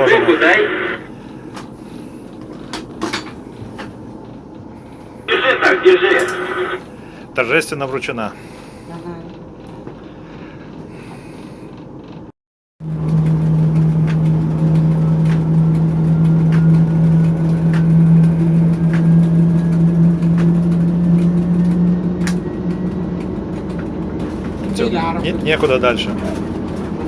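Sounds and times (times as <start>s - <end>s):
diesel locomotive engine droning: 0.0s - 27.0s.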